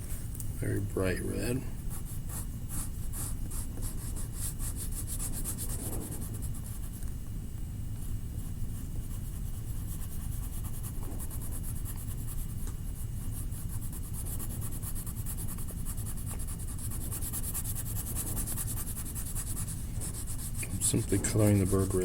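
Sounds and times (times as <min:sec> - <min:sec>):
steady low hum: 0:00.0 - 0:22.0
colouring tool scratching on paper: 0:01.9 - 0:07.0, 0:08.4 - 0:22.0.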